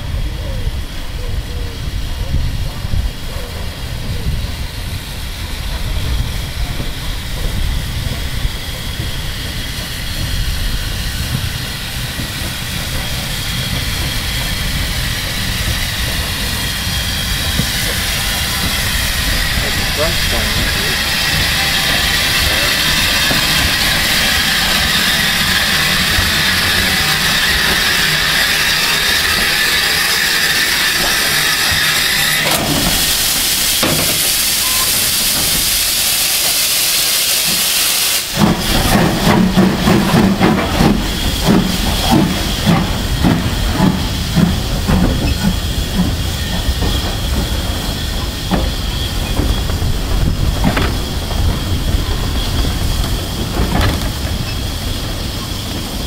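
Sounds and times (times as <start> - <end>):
locomotive chuffing: 0.0 - 56.0
steam hissing: 0.0 - 56.0.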